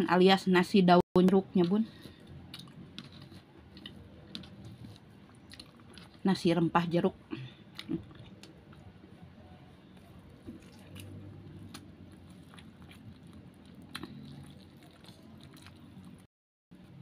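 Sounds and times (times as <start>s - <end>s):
person chewing food: 2.0s - 6.2s, 7.5s - 17.0s.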